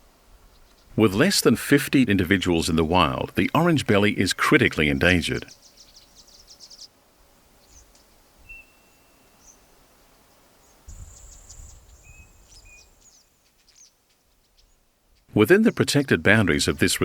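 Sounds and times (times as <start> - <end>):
small birds chirping: 0.4 - 1.1, 1.8 - 17.0.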